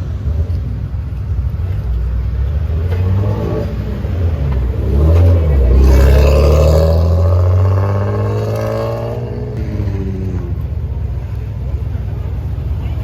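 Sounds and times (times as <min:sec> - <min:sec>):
loud car exhaust: 0:01.3 - 0:12.7.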